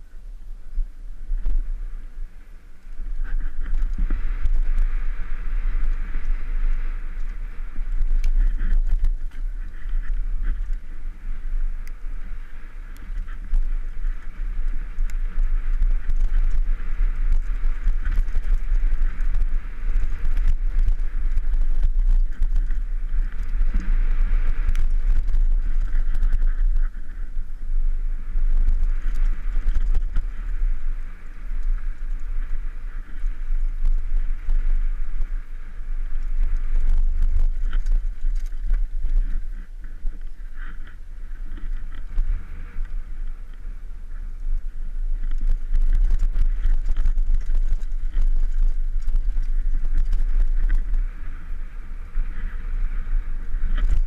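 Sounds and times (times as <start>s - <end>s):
wind rumble on microphone: 0.0s - 54.0s
bike rattling over bumps: 1.3s - 54.0s.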